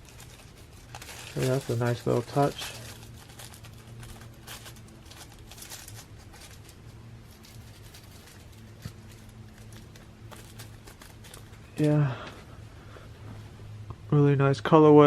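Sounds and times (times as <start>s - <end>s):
fabric rustling: 0.0s - 13.7s
steady low hum: 0.0s - 15.0s.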